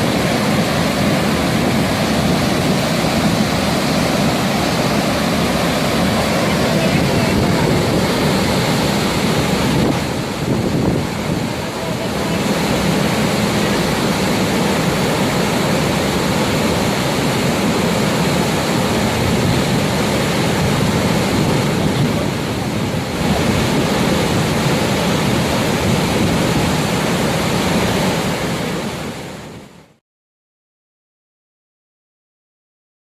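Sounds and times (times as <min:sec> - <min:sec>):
waterfall rushing: 0:00.0 - 0:29.7.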